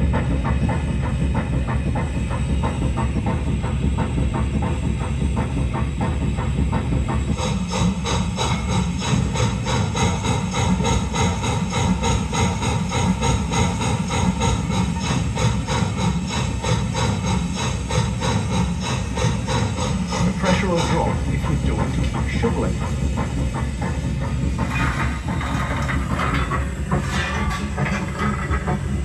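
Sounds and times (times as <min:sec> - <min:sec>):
steam locomotive chuffing: 0:00.0 - 0:29.0.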